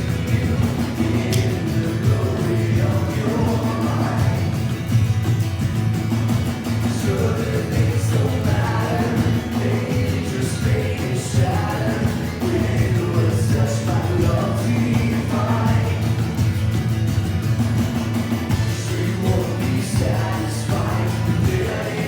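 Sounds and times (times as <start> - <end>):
bass line: 0.0 - 22.0
people singing: 0.0 - 22.0.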